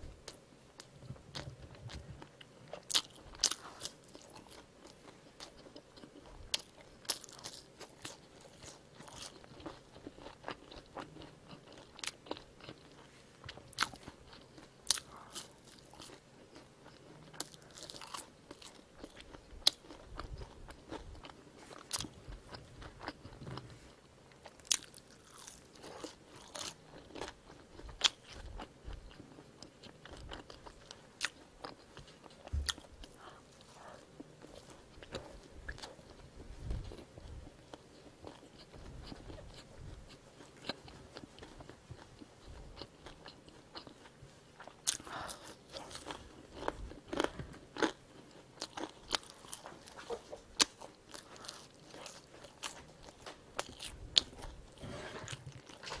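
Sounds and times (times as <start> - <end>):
person chewing crunchy food: 0.2 - 56.0.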